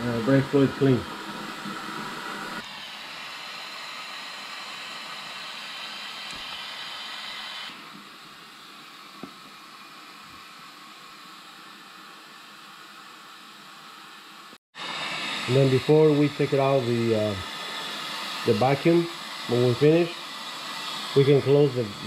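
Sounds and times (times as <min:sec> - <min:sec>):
vacuum brake bleeder hissing: 0:00.0 - 0:12.7, 0:14.8 - 0:22.0.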